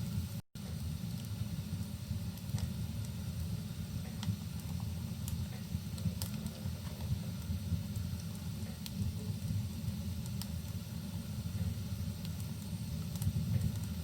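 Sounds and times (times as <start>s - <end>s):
fireplace crackling: 0.0s - 14.0s.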